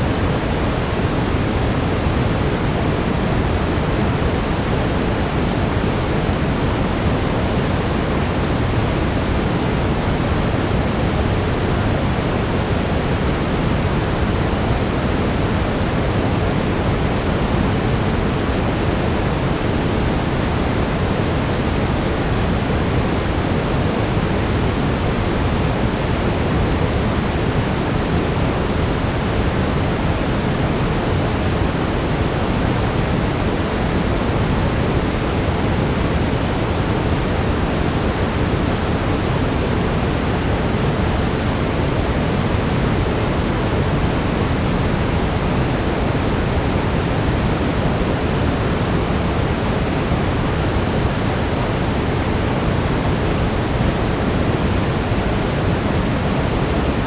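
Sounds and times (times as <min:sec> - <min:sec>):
deep brown noise hiss: 0:00.0 - 0:57.0.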